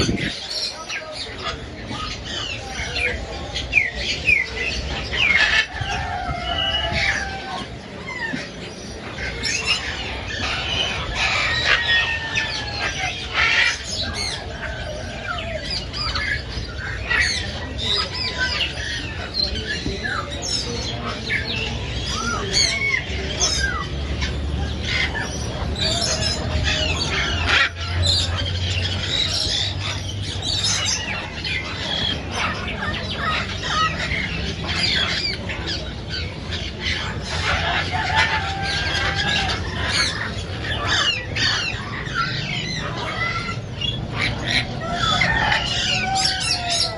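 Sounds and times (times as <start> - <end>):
many birds chirping and squawking: 0.0 - 46.9.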